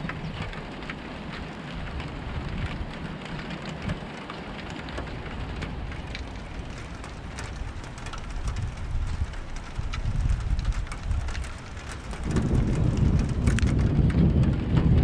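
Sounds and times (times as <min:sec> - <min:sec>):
low thunder rumble: 0:00.0 - 0:15.0
rain falling: 0:00.0 - 0:15.0
raindrops ticking: 0:00.0 - 0:15.0.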